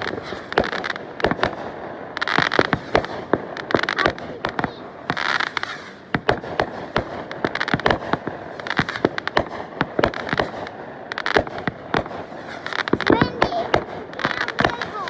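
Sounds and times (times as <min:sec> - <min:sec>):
fireworks bangs and pops: 0:00.0 - 0:15.0
fireworks crackle: 0:00.0 - 0:15.0.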